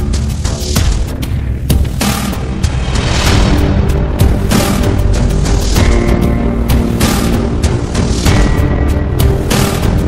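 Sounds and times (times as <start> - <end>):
soundtrack music with heavy bass: 0.0 - 10.0.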